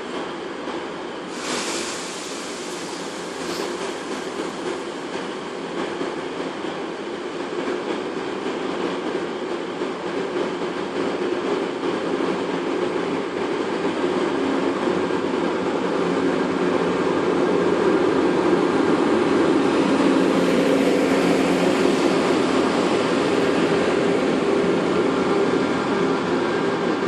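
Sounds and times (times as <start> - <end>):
train rolling rumble: 0.0 - 27.0.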